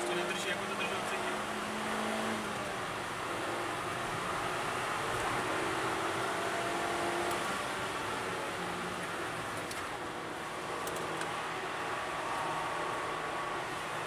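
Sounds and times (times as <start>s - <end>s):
car engine: 0.0s - 14.0s.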